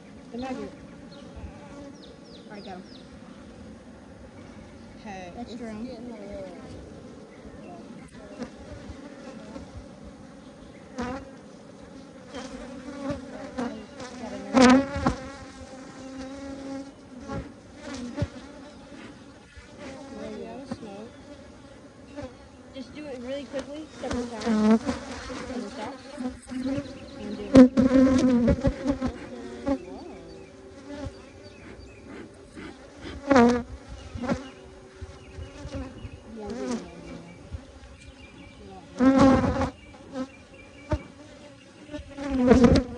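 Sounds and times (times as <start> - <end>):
bee flying close past: 0.0 - 42.9
honeybees buzzing: 0.0 - 42.9.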